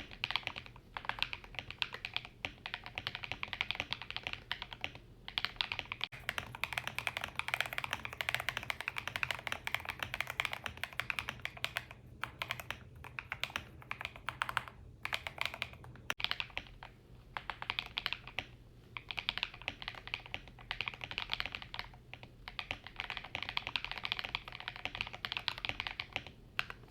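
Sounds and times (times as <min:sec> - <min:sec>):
typing on mechanical keyboard: 0:00.0 - 0:26.9.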